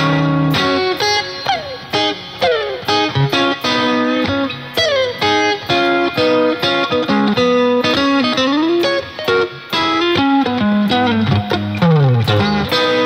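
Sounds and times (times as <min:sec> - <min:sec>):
electric guitar lead notes: 0:00.0 - 0:13.0.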